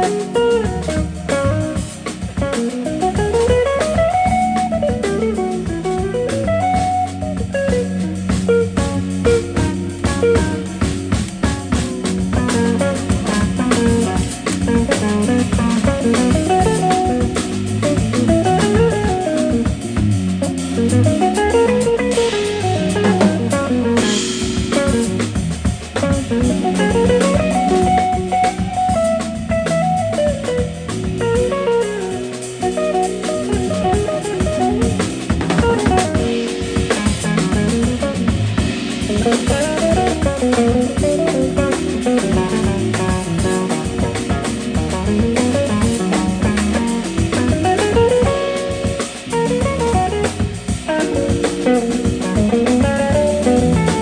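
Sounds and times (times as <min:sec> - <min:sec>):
drum kit: 0:00.0 - 0:54.0
electric guitar melody: 0:00.0 - 0:54.0
electric keyboard: 0:00.0 - 0:54.0.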